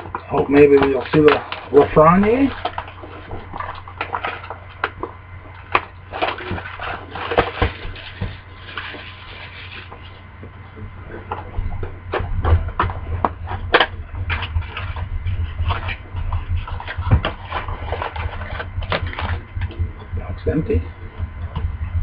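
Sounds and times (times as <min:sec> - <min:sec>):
foil packs crinkling: 0:00.0 - 0:10.2, 0:12.1 - 0:19.8.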